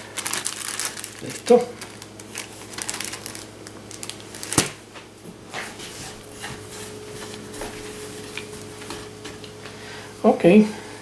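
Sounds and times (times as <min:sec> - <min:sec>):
hands rustling and patting dough: 0:00.0 - 0:09.8.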